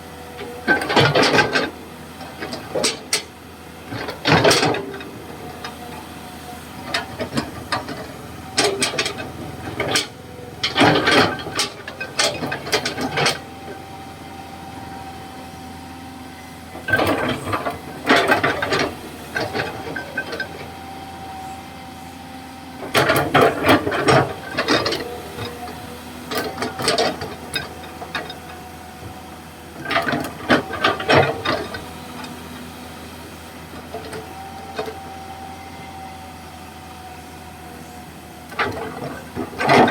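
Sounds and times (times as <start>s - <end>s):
excavator engine running: 0.0s - 39.9s
rattling clanks of excavator bucket: 0.4s - 6.1s, 6.7s - 14.1s, 16.7s - 20.8s, 22.7s - 36.0s, 37.8s - 39.9s.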